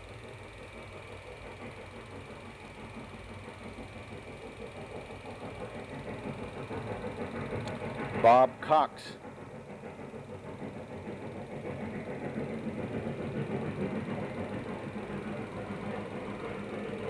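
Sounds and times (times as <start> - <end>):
mechanical running noise: 0.0 - 17.0.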